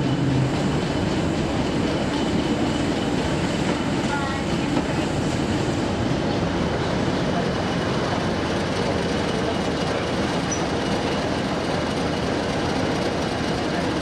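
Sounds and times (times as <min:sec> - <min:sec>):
diesel locomotive running: 0:00.0 - 0:14.0.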